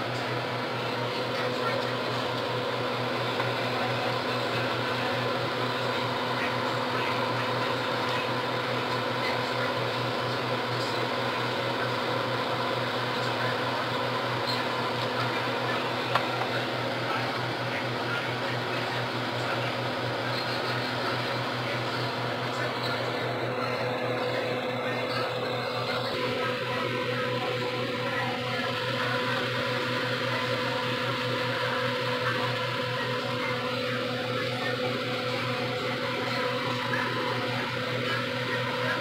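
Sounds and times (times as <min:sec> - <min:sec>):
electric motor humming: 0:00.0 - 0:39.0.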